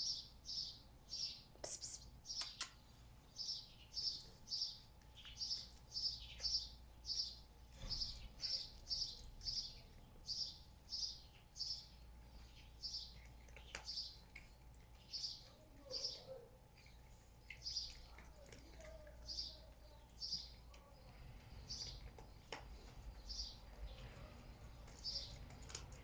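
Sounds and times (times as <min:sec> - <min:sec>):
small bird chirping: 0:00.0 - 0:26.0.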